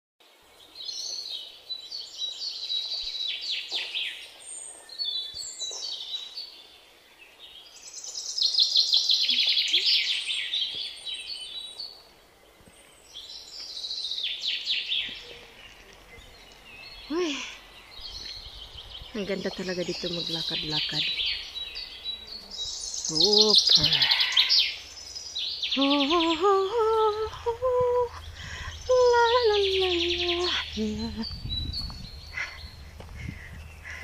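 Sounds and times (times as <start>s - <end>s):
songbirds trilling: 0.3s - 34.0s.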